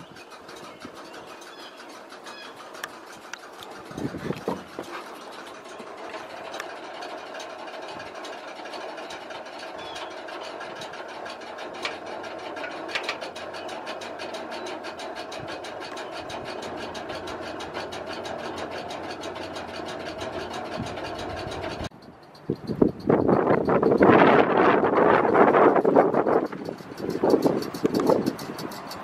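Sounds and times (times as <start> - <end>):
relay contacts clicking: 0.0 - 29.0.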